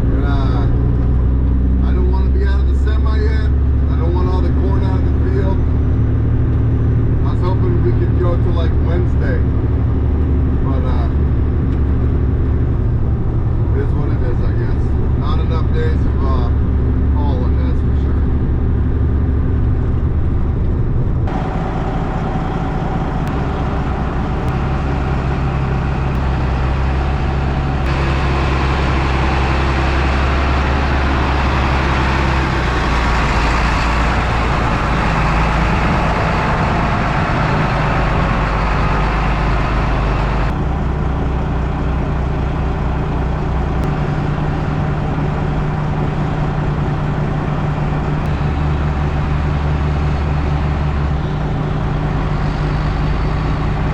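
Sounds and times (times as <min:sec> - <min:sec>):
road noise rushing: 0:00.0 - 0:53.9
truck diesel engine running: 0:00.0 - 0:53.9.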